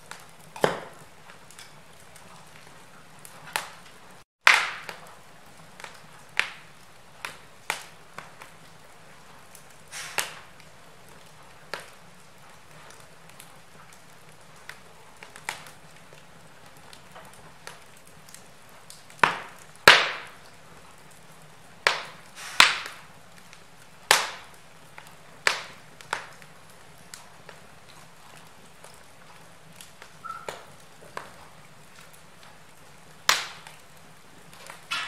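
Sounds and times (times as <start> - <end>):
wood logs crackling and popping: 0.0 - 35.0.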